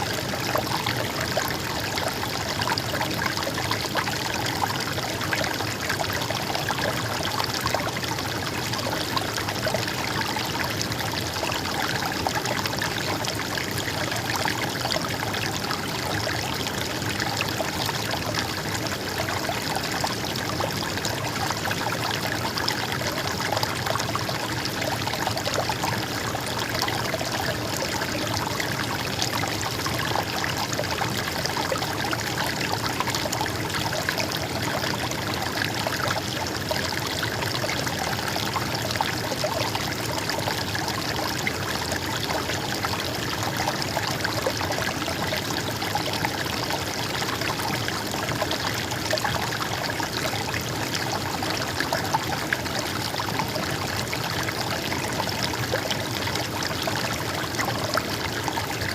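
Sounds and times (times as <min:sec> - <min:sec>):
stream water flowing over stones: 0:00.0 - 0:58.9.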